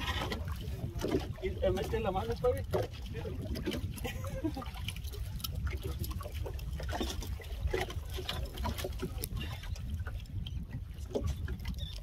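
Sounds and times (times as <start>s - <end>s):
water lapping against boat: 0.0s - 12.0s
wind rumble on microphone: 0.0s - 12.0s.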